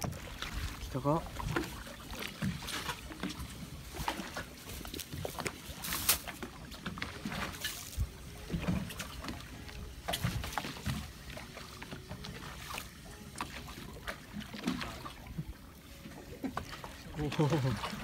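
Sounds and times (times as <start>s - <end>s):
water against boat hull: 0.0s - 18.0s
wind: 0.0s - 18.0s.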